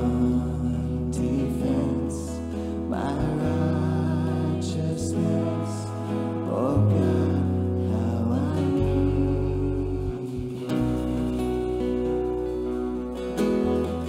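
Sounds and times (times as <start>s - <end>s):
woman singing: 0.0s - 11.4s
acoustic band playing: 0.0s - 14.0s
sustained low notes: 0.0s - 14.0s.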